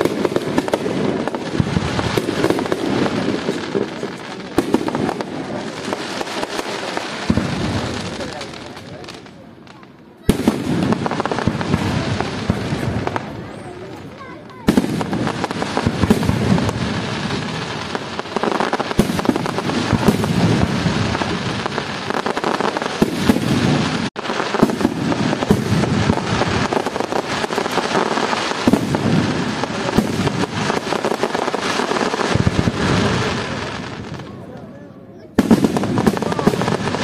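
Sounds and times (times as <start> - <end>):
firework bangs: 0.0 - 37.0
fireworks crackling: 0.0 - 37.0.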